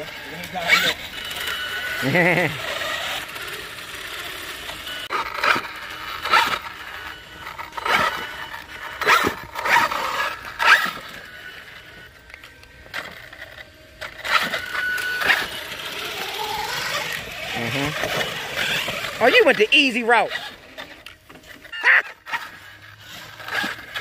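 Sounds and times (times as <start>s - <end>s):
irregular scrapes and crunches: 0.0s - 24.0s.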